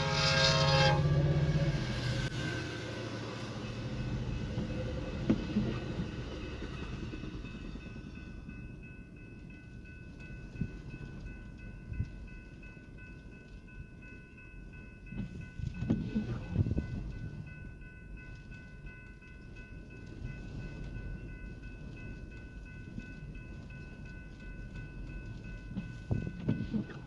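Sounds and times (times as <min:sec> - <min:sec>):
crossing warning bell: 0:00.0 - 0:27.0
train rumbling past: 0:00.0 - 0:27.0.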